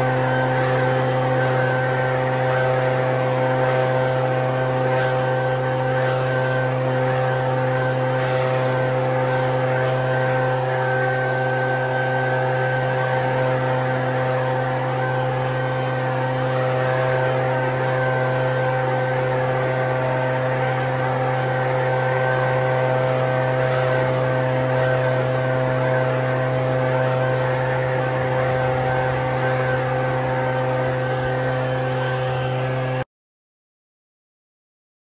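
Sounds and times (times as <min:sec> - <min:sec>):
leaf blower engine running: 0:00.0 - 0:33.0.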